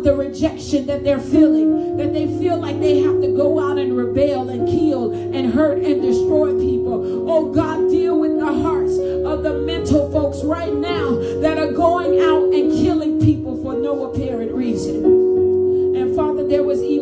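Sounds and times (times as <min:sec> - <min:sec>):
woman singing into a microphone: 0:00.0 - 0:15.1
sustained instrumental chords: 0:00.0 - 0:17.0.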